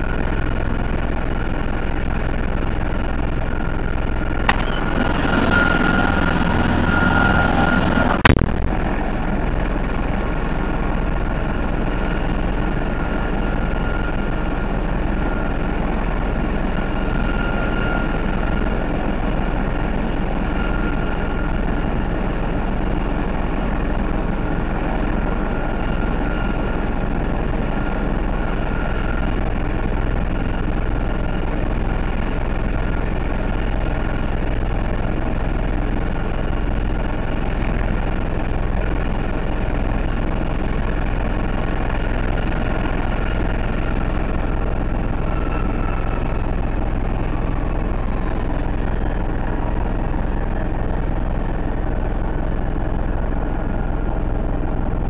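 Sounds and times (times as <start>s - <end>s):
helicopter turbine engine whining: 0.0s - 55.0s.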